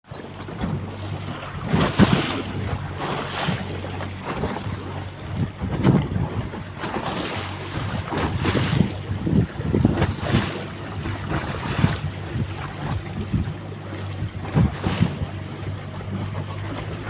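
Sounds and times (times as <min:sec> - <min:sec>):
boat motor running: 0:00.0 - 0:17.0
water washing against hull: 0:00.0 - 0:17.0
wind buffeting microphone: 0:00.1 - 0:17.0.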